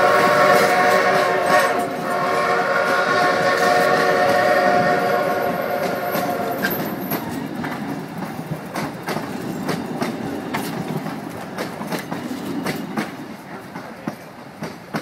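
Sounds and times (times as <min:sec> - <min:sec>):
railroad cars rumbling: 0:00.0 - 0:15.0
wheels clicking over rail joints: 0:02.8 - 0:15.0.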